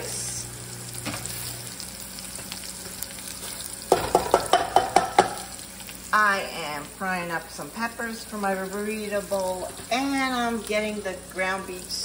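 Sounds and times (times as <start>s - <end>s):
peppers sizzling in oil: 0.0s - 12.0s
water boiling: 0.0s - 12.0s.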